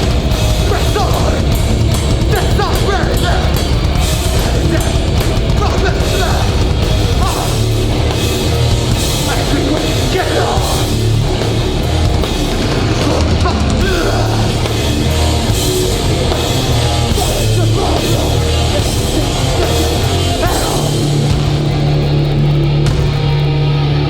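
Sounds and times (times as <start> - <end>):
punk band playing loudly: 0.0 - 24.0.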